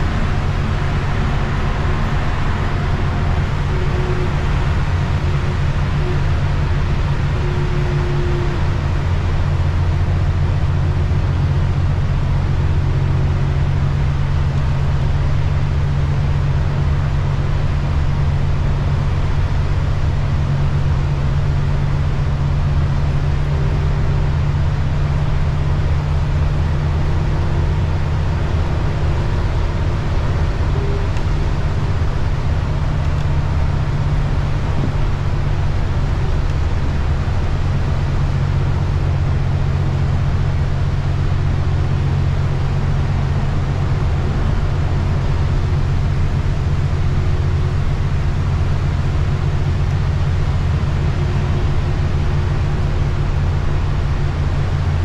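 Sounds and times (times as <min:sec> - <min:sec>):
bus engine drone: 0:00.0 - 0:55.0
tyres hissing on wet road: 0:00.0 - 0:55.0.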